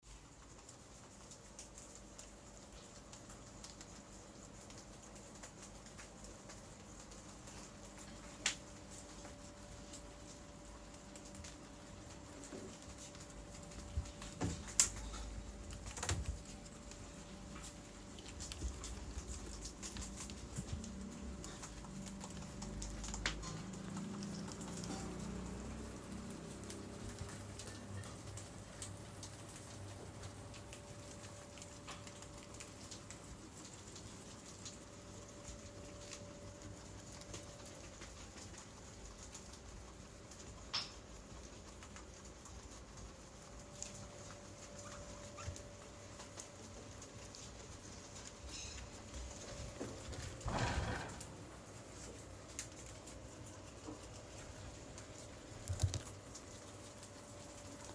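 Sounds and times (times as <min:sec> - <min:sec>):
guinea pig nibbling corn husk: 0:00.0 - 0:57.9.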